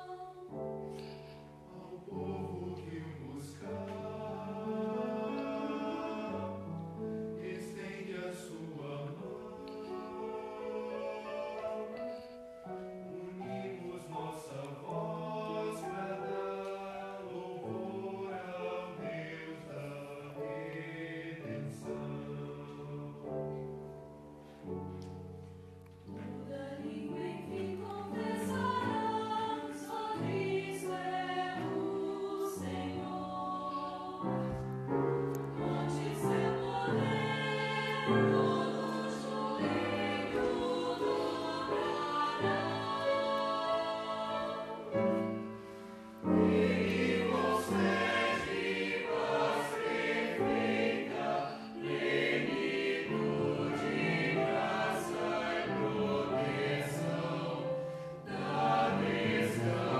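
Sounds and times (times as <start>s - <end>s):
choir singing: 0.0s - 25.2s, 26.0s - 59.9s
piano accompaniment: 0.0s - 59.9s.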